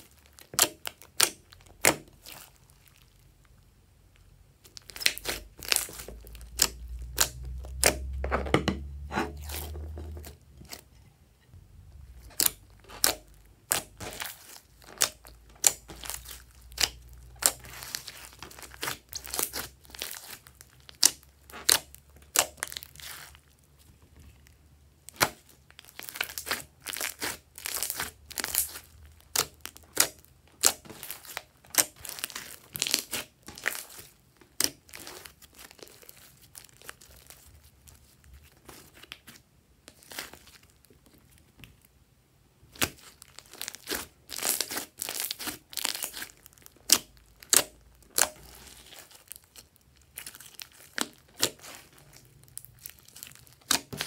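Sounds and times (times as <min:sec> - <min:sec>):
hands squishing sticky slime: 0:00.0 - 0:03.6, 0:04.6 - 0:10.9, 0:12.0 - 0:41.8, 0:42.7 - 0:54.0.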